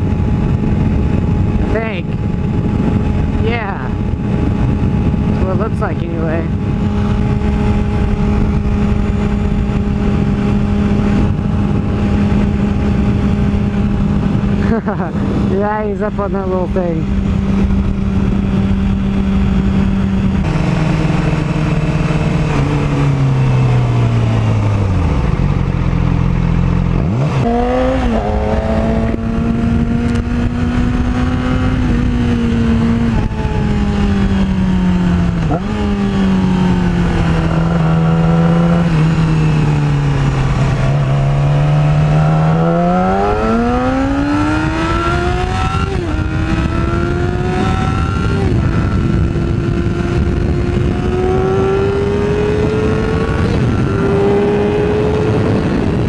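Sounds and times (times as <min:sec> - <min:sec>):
motorcycle engine revving: 0:00.0 - 0:56.0
wind rushing: 0:00.0 - 0:56.0.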